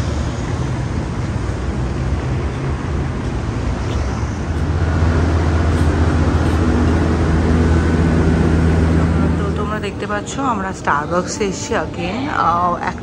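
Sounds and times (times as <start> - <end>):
vehicle engine low hum: 0.0 - 11.1
road traffic noise: 0.0 - 13.0.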